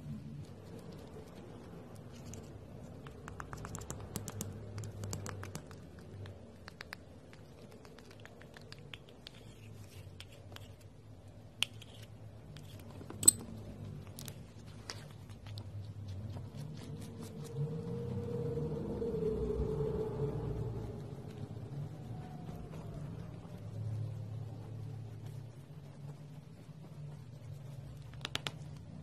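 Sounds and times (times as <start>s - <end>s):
thick paint stirred with spoon: 0.0s - 17.7s, 20.9s - 29.0s.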